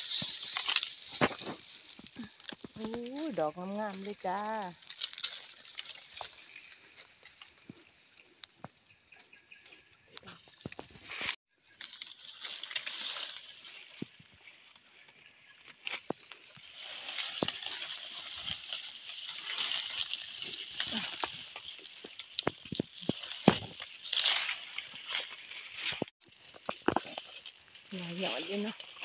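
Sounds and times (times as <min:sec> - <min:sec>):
leaves and branches rustling: 0:00.0 - 0:29.0
twigs clicking and snapping: 0:00.0 - 0:29.0.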